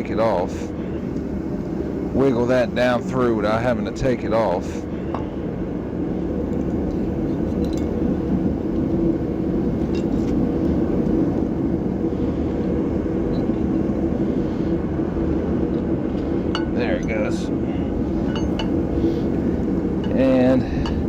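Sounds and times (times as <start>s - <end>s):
mechanical humming drone: 0.0s - 21.0s.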